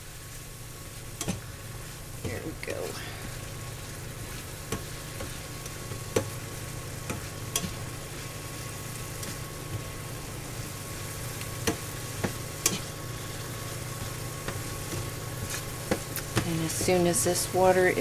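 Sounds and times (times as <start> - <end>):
vegetables sizzling in a pan: 0.0 - 18.0.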